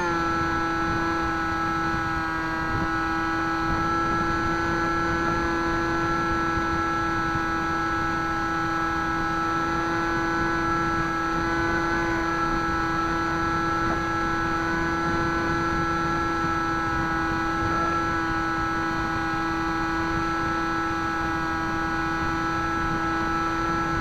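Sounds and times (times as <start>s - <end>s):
model plane propeller whine: 0.0s - 24.0s
wind rumbling on microphone: 0.0s - 24.0s.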